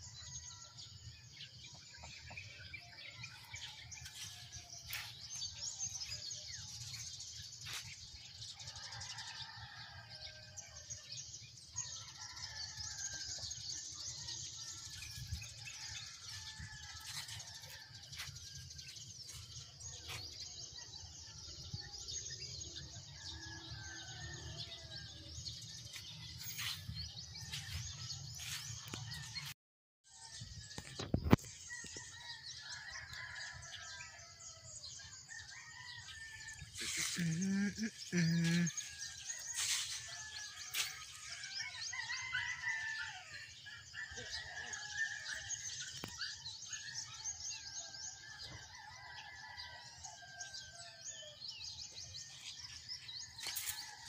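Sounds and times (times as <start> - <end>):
birds chirping and calling: 0.0 - 29.5, 30.2 - 54.0.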